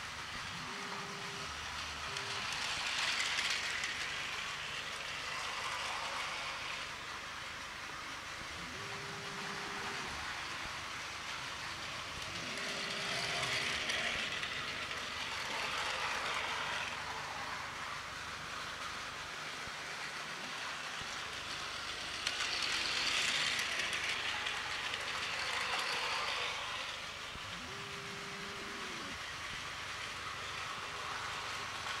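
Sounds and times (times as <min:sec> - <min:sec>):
toy train whirring on track: 0:00.0 - 0:32.0.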